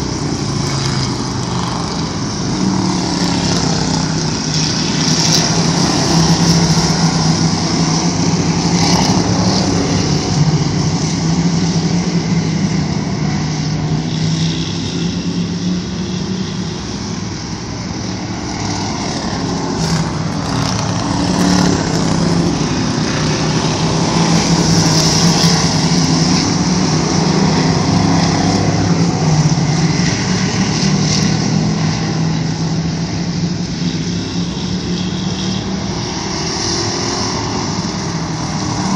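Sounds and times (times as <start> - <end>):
race car engines roaring: 0.0 - 38.9.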